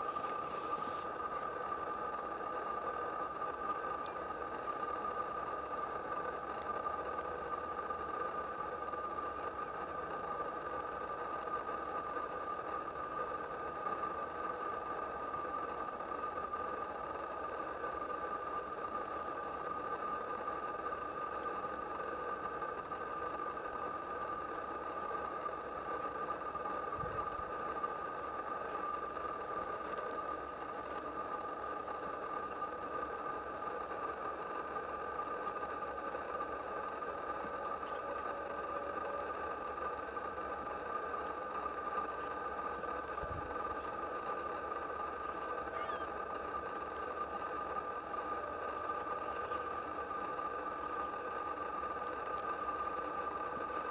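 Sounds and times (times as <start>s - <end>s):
steady mid-pitched hum: 0.0s - 53.9s.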